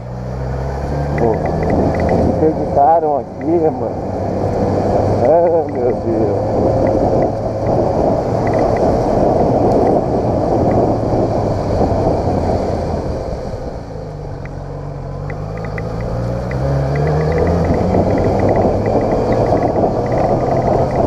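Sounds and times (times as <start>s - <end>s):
motorcycle engine running: 0.8s - 21.0s
wind noise on microphone: 1.0s - 14.5s, 15.3s - 21.0s.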